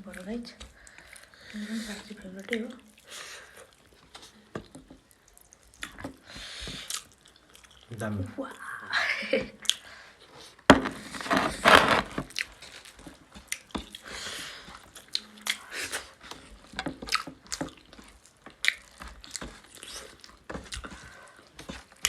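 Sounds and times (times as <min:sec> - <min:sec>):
wet chewing and lip-smacking: 0:00.1 - 0:07.9, 0:09.6 - 0:10.6, 0:12.3 - 0:22.0.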